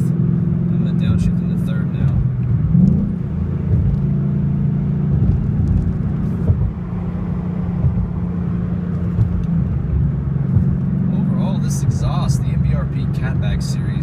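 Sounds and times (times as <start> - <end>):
car exhaust drone from cabin: 0.0 - 14.0.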